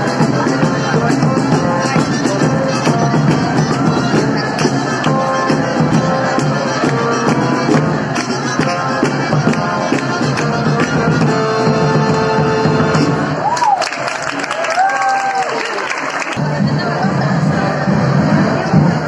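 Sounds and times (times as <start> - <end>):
parade band playing: 0.0 - 13.6, 16.3 - 19.0.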